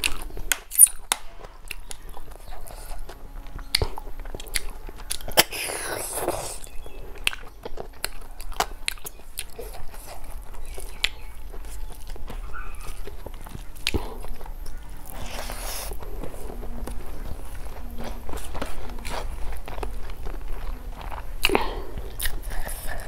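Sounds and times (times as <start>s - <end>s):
fingers rustling rice on plate: 0.0s - 23.0s
person chewing food: 0.0s - 23.0s.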